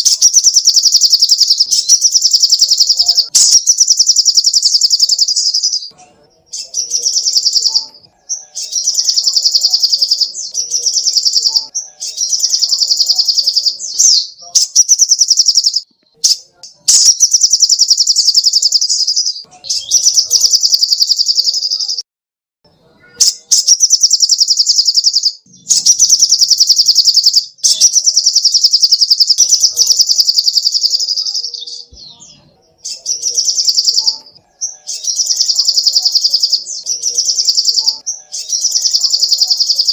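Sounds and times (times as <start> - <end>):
small bird singing fast trills: 0.0 - 22.0, 23.1 - 39.9.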